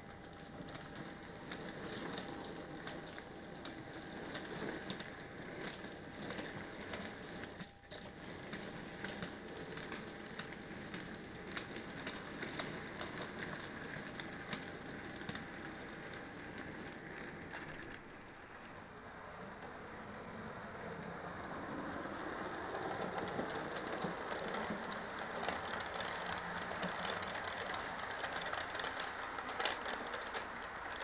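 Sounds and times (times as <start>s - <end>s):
faint steady tone: 0.0s - 28.0s
model train wheels clicking: 0.0s - 31.0s.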